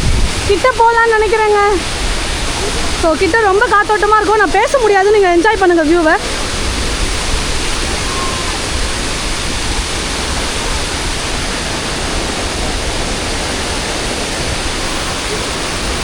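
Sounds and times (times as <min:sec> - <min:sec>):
waterfall rushing: 0:00.0 - 0:16.0
wind on microphone: 0:00.0 - 0:16.0.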